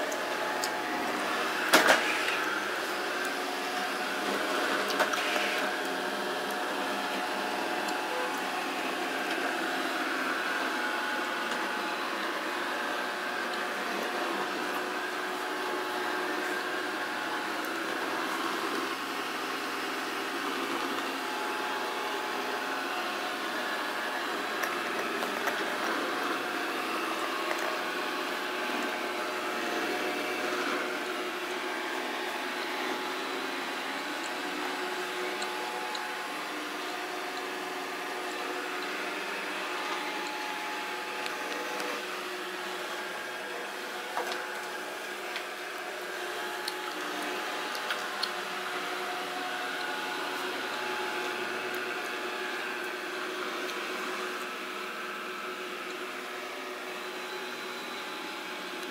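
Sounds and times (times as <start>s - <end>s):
robot vacuum fan and brush noise: 0.0s - 58.9s.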